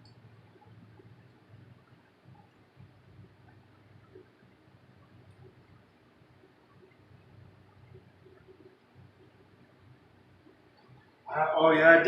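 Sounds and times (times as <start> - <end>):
tiny ticks: 0.0 - 9.4, 10.4 - 11.2
faint low hum: 0.0 - 12.0.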